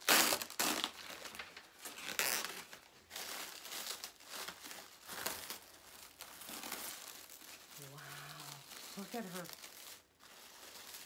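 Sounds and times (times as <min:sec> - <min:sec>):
plastic wrap and paper crinkling: 0:00.0 - 0:11.0.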